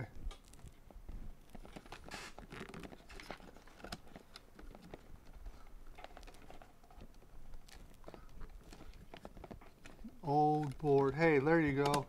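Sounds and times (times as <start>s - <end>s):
scraping and plastic clicks: 1.4s - 12.0s.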